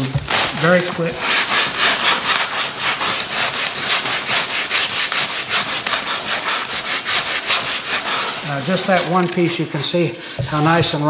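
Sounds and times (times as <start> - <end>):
sandpaper rubbing foam: 0.0 - 11.0.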